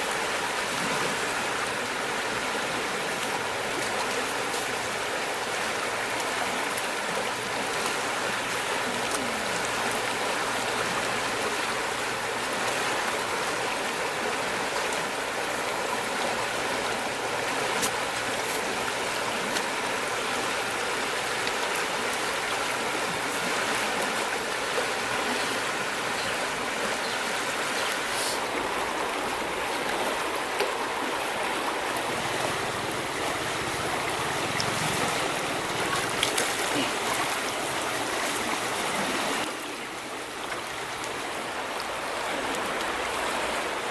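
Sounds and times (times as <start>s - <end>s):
river water flowing: 0.0s - 43.9s.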